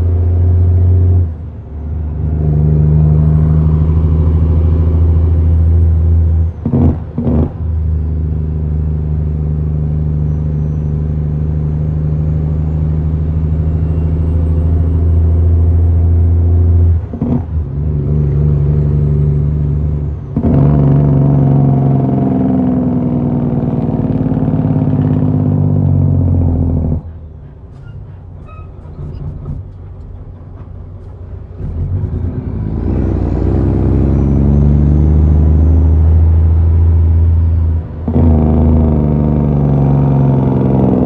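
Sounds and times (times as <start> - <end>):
diesel truck engine: 0.0 - 41.0.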